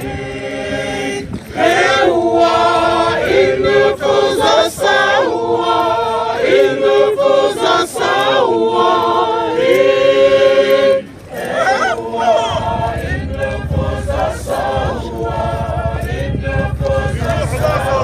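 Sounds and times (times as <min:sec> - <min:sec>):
women singing together unaccompanied: 0:00.0 - 0:18.0.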